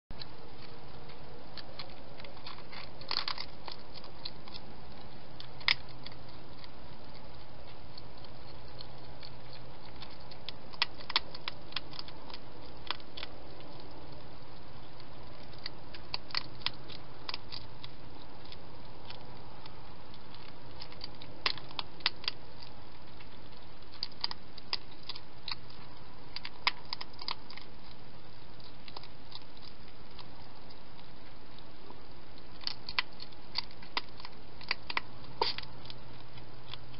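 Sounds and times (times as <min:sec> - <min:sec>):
hedgehog crunching food: 0:00.1 - 0:36.9
steady low hum: 0:00.1 - 0:36.9.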